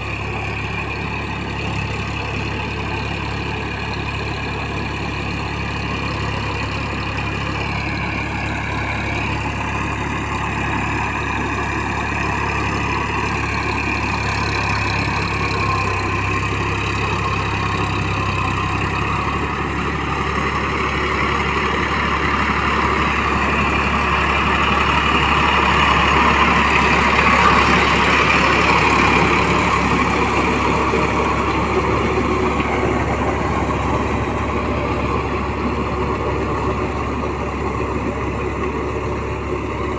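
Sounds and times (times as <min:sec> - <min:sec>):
diesel tractor running: 0:00.0 - 0:39.9.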